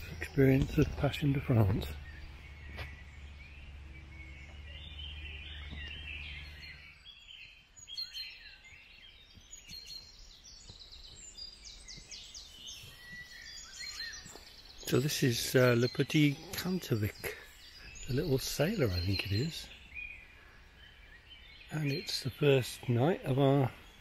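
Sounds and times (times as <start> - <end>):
birds chirping and warbling: 0.0 - 24.0.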